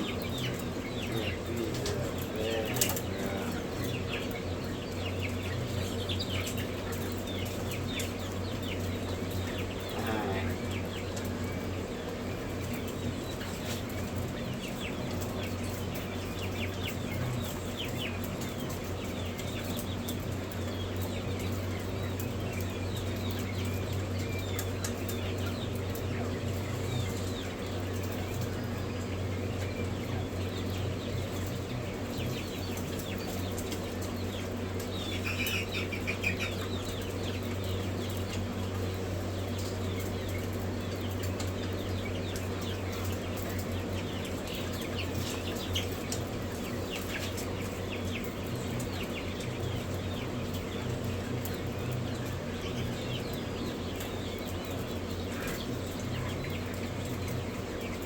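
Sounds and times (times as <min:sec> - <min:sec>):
chicks peeping: 0:00.0 - 0:58.0
low electrical hum: 0:00.0 - 0:58.0.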